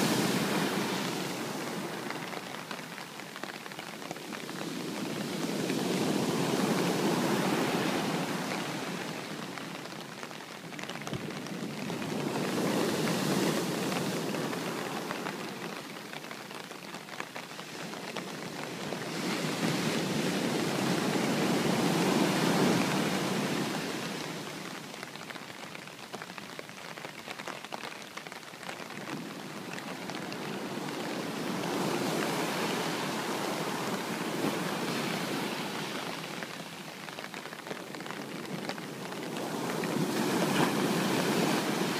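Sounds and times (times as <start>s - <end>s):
rain falling: 0.0s - 41.9s
sea waves washing ashore: 0.0s - 41.9s.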